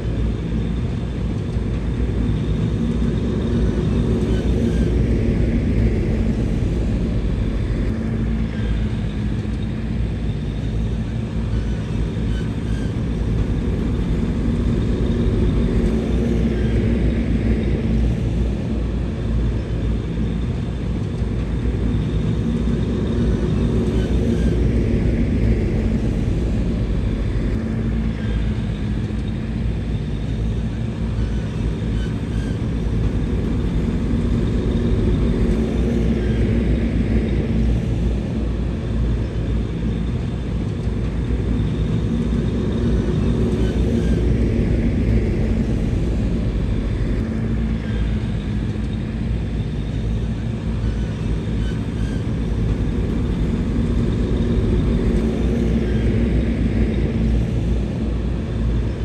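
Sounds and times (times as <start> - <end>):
bulldozer diesel engine: 0.1 - 59.0.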